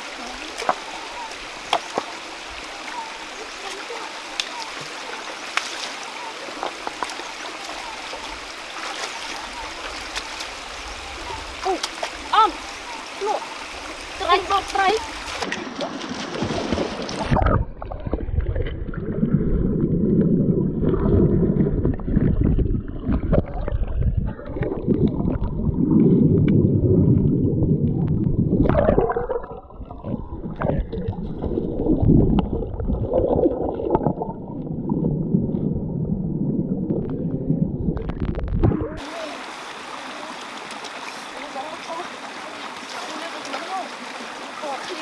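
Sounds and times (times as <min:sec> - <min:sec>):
underwater stream gurgling: 0:00.0 - 0:45.0.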